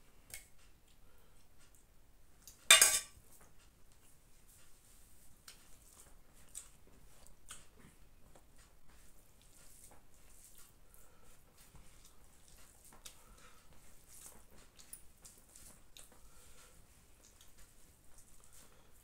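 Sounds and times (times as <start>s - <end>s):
hand mixing rice squishes: 3.3s - 19.0s.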